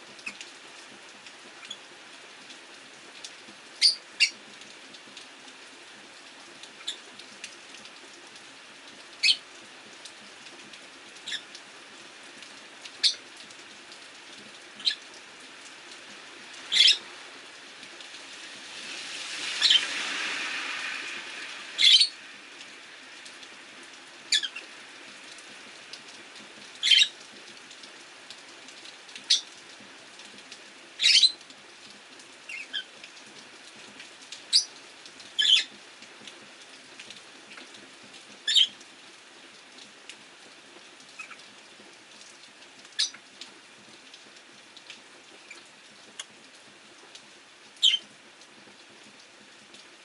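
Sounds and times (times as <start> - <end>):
rain hiss: 0.0 - 50.0.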